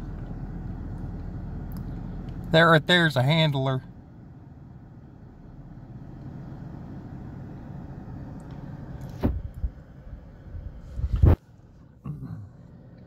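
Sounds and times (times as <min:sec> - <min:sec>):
car rumbling: 0:00.0 - 0:13.0.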